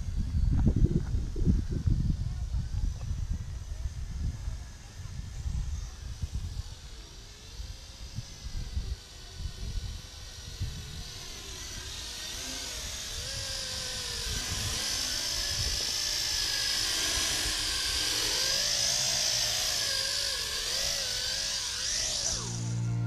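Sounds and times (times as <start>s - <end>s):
quadcopter propellers whining: 0.0s - 23.0s.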